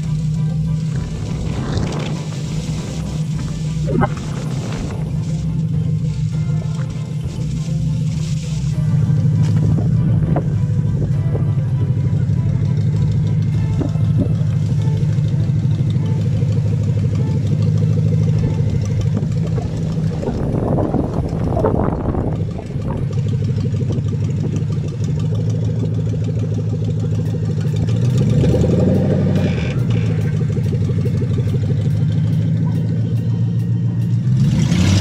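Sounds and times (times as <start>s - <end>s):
car engine idling: 0.0s - 35.0s
car pulling away: 0.0s - 35.0s
engine revving: 0.0s - 35.0s.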